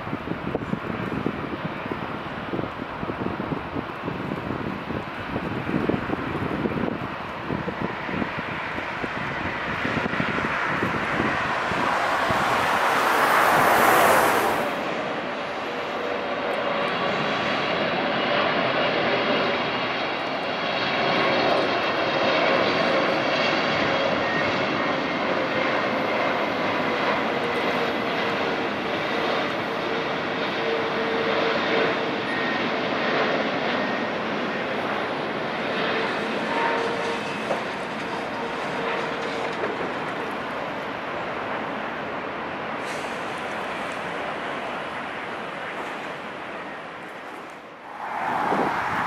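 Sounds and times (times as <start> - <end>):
jet engines rushing: 0.0 - 49.0.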